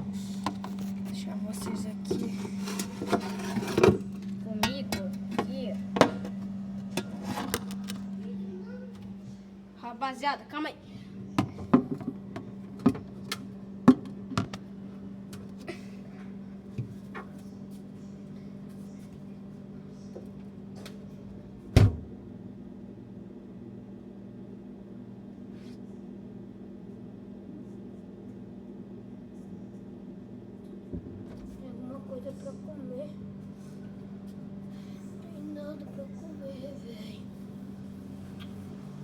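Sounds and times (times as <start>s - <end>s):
refrigerator humming: 0.0s - 39.0s.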